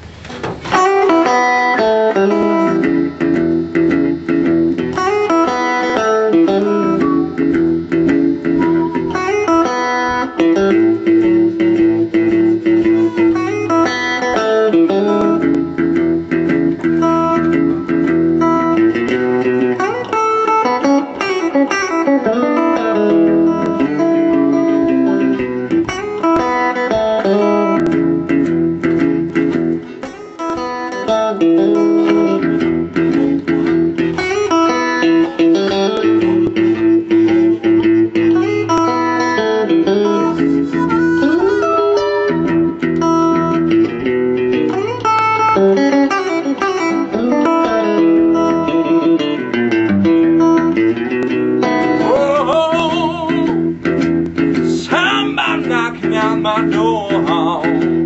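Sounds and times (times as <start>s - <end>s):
electric guitar playing blues: 0.0s - 58.0s.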